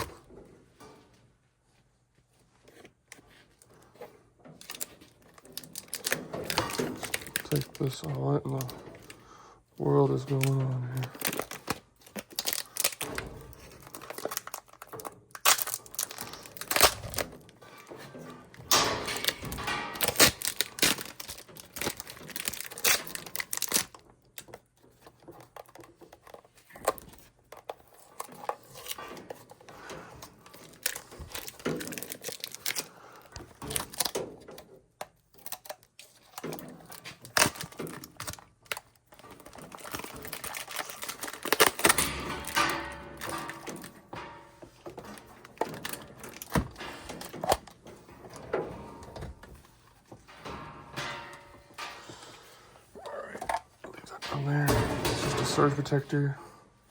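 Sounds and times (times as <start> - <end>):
wire crinkling and rustling: 0.0 - 56.9.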